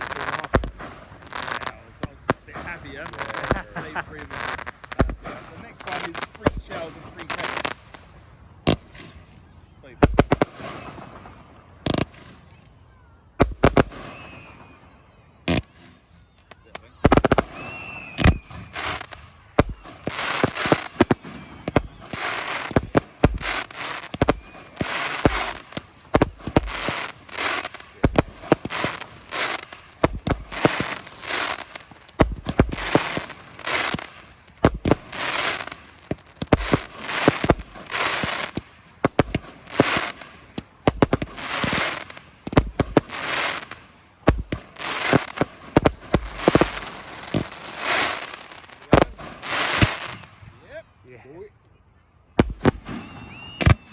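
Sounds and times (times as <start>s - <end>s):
fireworks bangs crackling: 0.0s - 12.7s, 13.4s - 14.8s, 15.5s - 50.5s, 52.4s - 53.9s.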